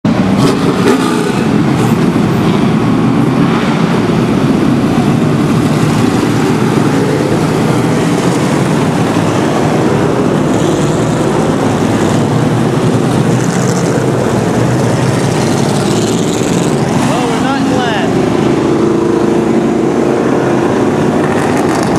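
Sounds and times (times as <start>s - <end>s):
race car engines roaring: 0.0s - 21.9s.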